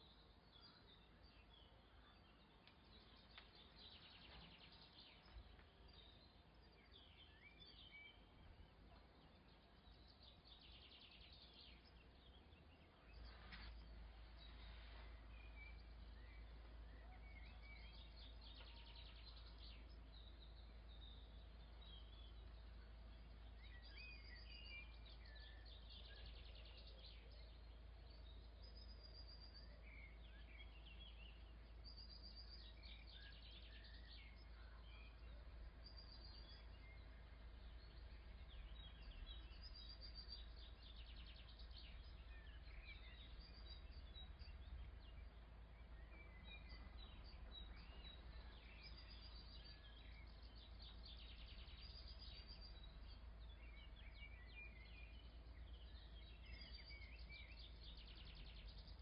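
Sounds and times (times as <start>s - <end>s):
faint birds chirping: 0.0s - 59.0s.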